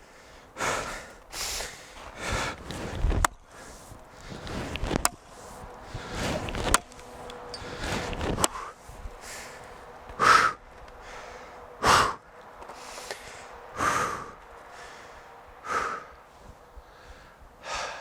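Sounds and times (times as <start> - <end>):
man breathing hard: 0.0 - 6.5, 7.6 - 18.0.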